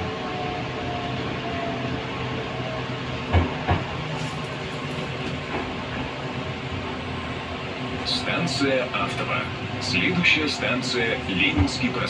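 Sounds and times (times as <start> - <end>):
metro train rumbling over rails: 0.0 - 12.0.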